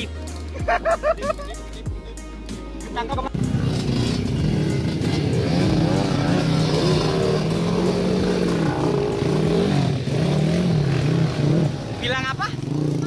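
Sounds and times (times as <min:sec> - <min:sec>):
dirt bike engines revving: 0:00.0 - 0:01.9, 0:02.7 - 0:13.0.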